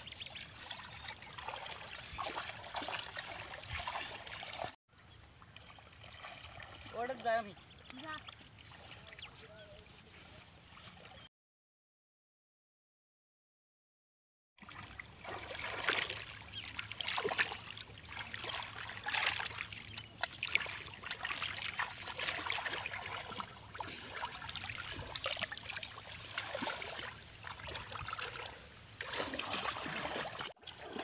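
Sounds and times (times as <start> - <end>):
muddy water splashing: 0.0 - 11.3, 14.6 - 31.0.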